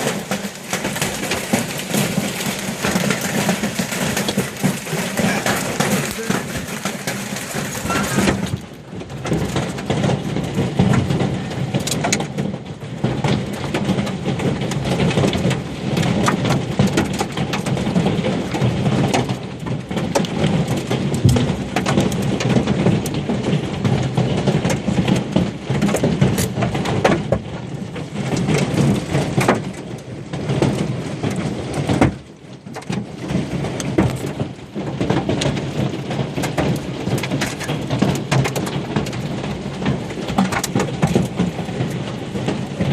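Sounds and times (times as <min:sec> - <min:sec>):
hail clattering on surfaces: 0:00.0 - 0:42.9.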